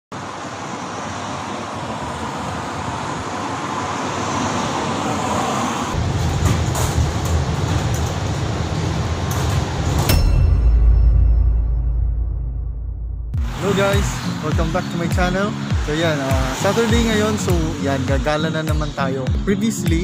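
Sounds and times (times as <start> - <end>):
roadside traffic noise: 0.1 - 11.8, 13.3 - 20.0.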